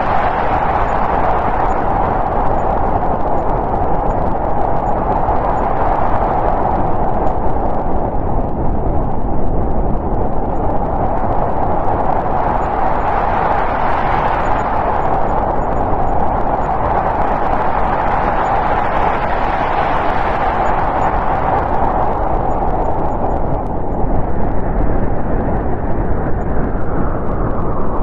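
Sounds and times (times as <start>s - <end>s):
snowstorm wind blowing: 0.0s - 28.0s.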